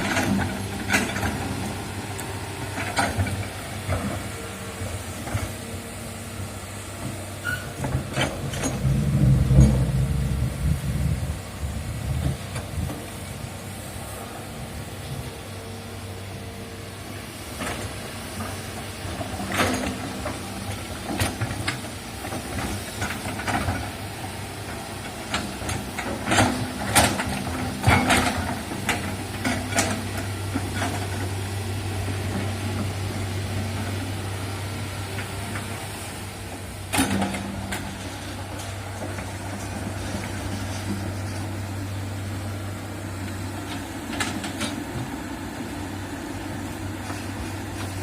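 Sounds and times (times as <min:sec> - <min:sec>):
excavator diesel engine: 0:00.0 - 0:48.0.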